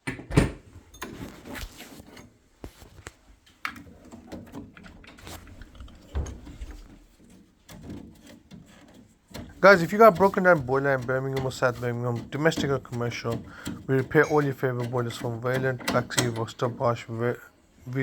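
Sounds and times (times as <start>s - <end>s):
hard objects knocking and rubbing: 0.0s - 17.3s.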